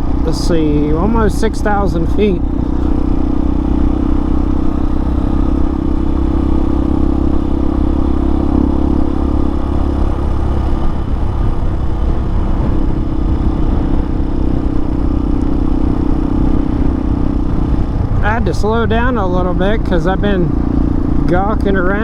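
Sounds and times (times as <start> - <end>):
motorcycle engine cruising: 0.0 - 22.0
road and wind rumble: 0.0 - 22.0.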